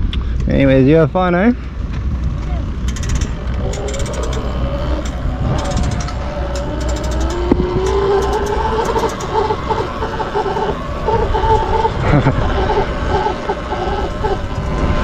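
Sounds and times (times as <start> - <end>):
constant low rumble: 0.0 - 15.0
electric motor whine: 2.7 - 15.0.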